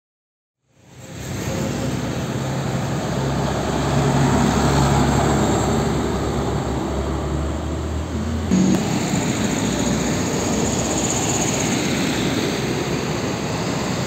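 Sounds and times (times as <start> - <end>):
diesel truck driving past: 0.8 - 14.0.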